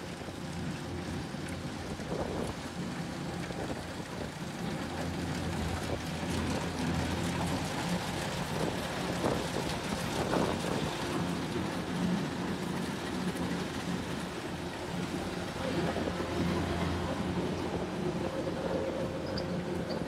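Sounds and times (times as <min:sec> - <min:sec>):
combine harvester diesel engine: 0:00.0 - 0:20.0.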